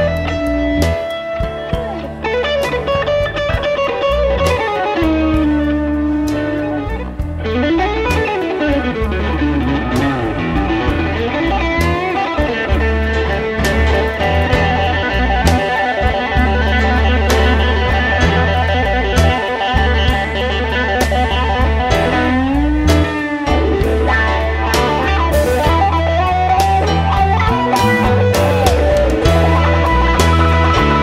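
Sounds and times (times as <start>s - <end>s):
bass and drums: 0.0s - 31.0s
bluesy electric guitar: 0.0s - 31.0s.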